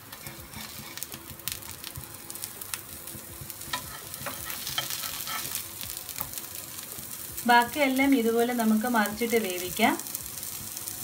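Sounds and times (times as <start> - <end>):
patties sizzling in fat: 0.0 - 11.0.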